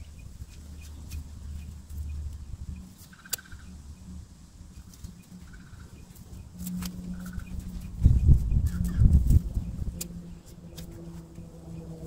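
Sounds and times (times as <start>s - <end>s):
bird calls: 0.0s - 9.9s
low hum: 0.0s - 12.0s.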